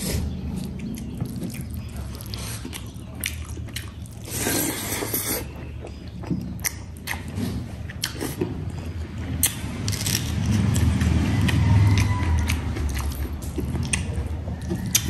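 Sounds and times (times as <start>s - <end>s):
food squelching: 0.0s - 15.0s
chewing and wet mouth smacks: 0.2s - 15.0s.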